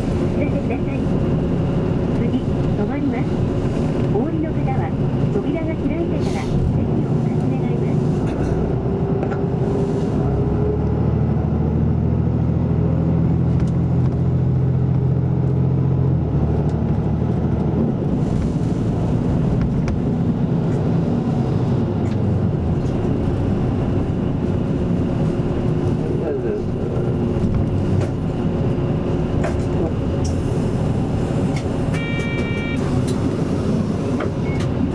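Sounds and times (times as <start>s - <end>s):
bus diesel engine hum: 0.0s - 34.9s.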